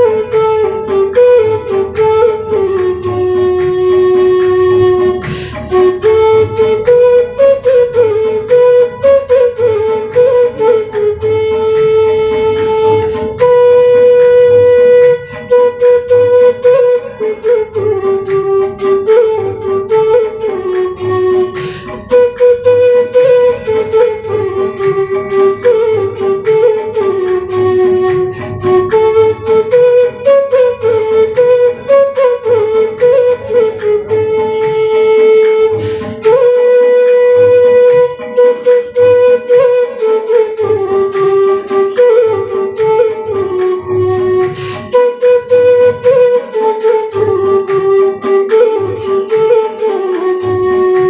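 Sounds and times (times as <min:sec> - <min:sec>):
bamboo flute melody: 0:00.0 - 0:51.0.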